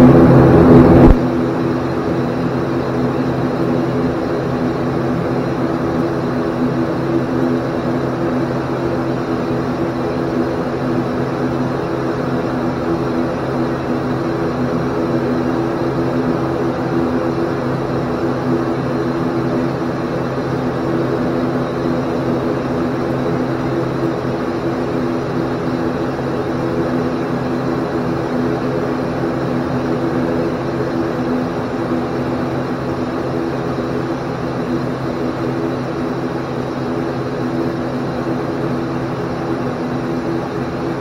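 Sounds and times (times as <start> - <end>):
turboprop engines droning: 0.0 - 41.0.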